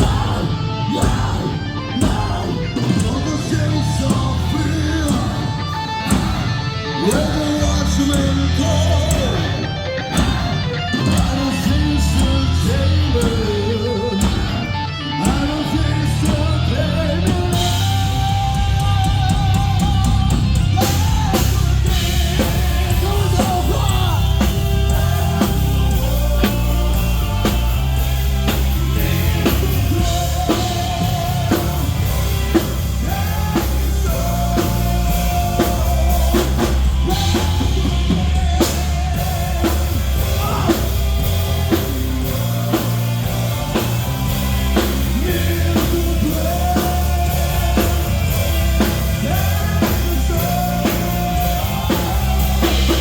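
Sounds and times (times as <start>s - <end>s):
pounding bass drum: 0.0s - 53.0s
rock band playing live: 0.0s - 53.0s.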